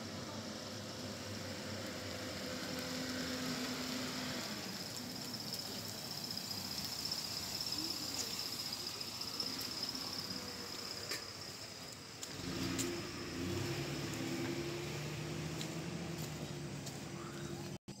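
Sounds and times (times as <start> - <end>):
car engine humming: 0.0 - 17.8.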